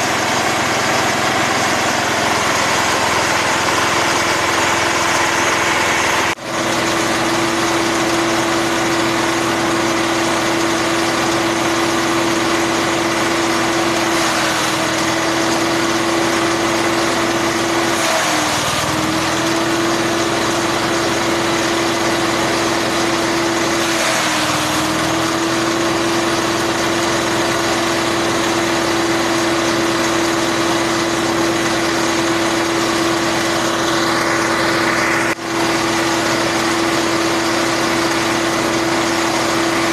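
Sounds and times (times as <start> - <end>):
grass chopper machine humming: 0.0 - 39.9.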